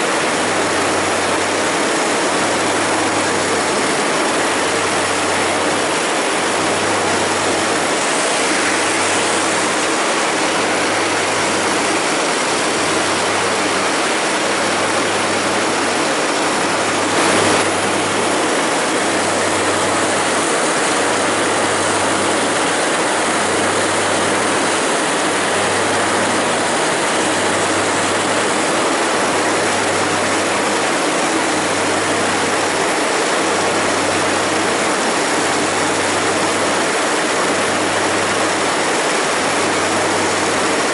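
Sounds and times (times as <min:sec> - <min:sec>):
heavy farm machinery running: 0:00.0 - 0:40.9.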